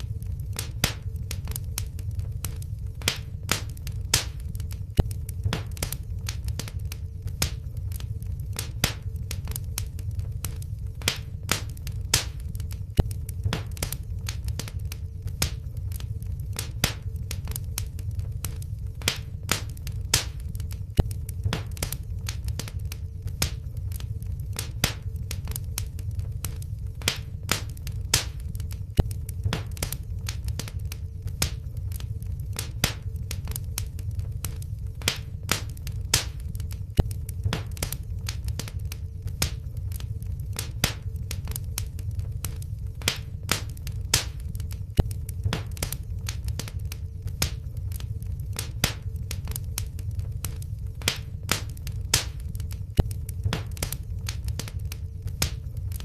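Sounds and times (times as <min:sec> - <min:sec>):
low steady rumble: 0:00.0 - 0:56.0
wood fire crackling: 0:00.0 - 0:56.0.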